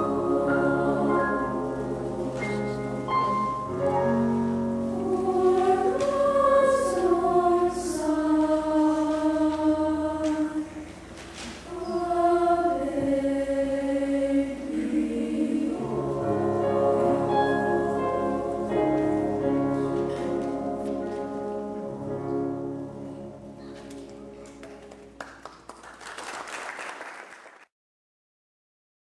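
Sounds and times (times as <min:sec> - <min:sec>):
children's choir singing: 0:00.0 - 0:24.6.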